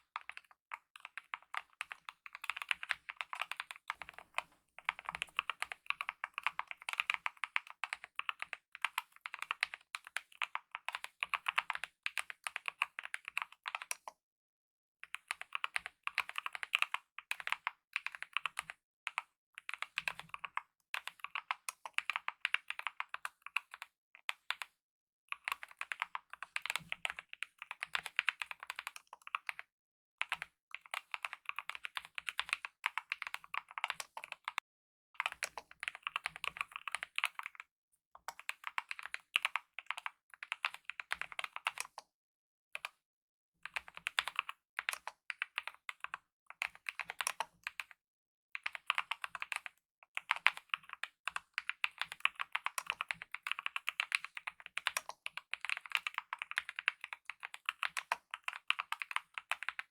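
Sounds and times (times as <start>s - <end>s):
typing on mechanical keyboard: 0.1s - 14.2s, 15.1s - 24.7s, 25.3s - 34.6s, 35.2s - 42.1s, 43.6s - 48.0s, 48.6s - 59.9s.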